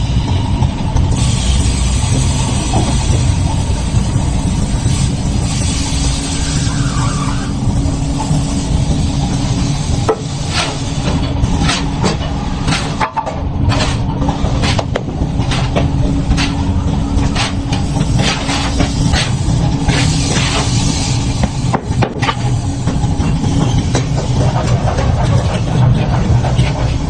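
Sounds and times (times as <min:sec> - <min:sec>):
machine rumble: 0:00.0 - 0:27.0.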